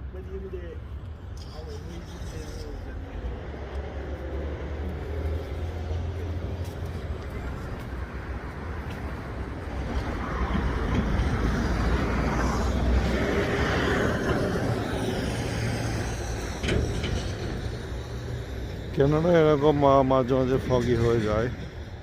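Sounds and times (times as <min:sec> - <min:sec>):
vehicle passing close by: 0:02.2 - 0:20.3.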